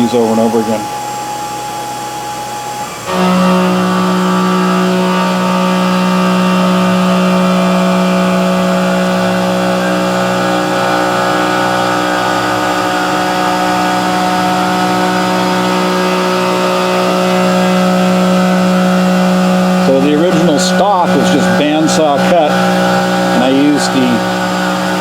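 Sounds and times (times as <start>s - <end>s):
milling machine cutting metal: 0.0s - 25.0s.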